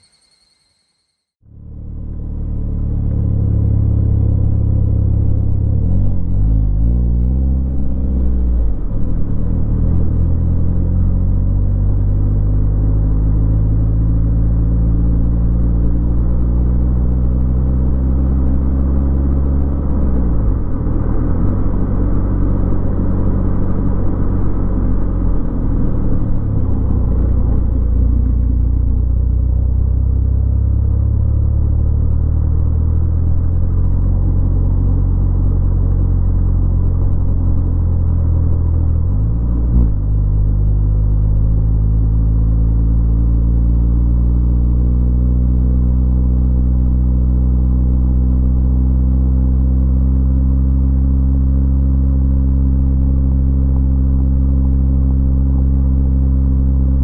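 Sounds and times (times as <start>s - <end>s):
car engine while driving: 1.4s - 57.0s
road noise: 1.4s - 57.0s.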